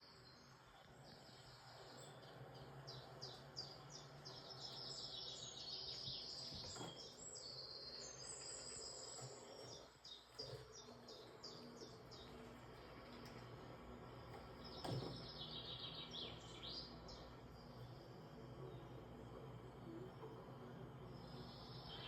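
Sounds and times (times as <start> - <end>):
faint low hum: 0.0 - 22.0
small birds chirping: 0.0 - 22.0.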